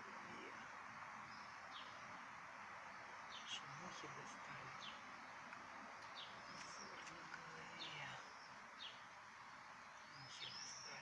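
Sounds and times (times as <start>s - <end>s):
soft hiss: 0.0s - 11.0s
songbirds chirping: 0.0s - 11.0s.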